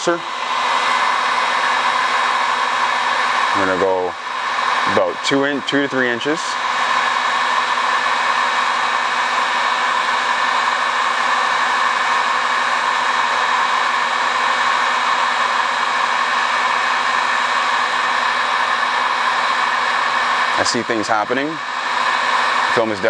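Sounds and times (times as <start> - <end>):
heat gun fan blowing: 0.0 - 23.0.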